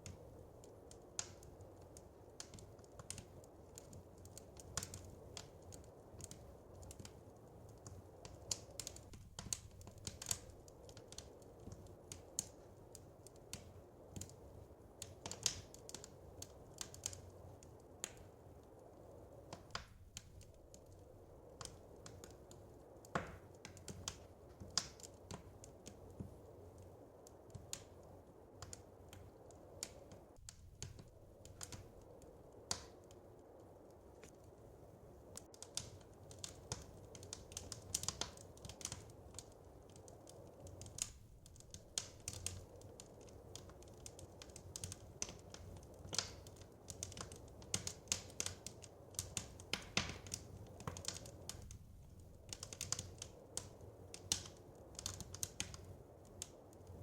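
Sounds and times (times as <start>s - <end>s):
fire low rumble: 0.0s - 57.0s
wood fire crackling: 0.0s - 57.0s.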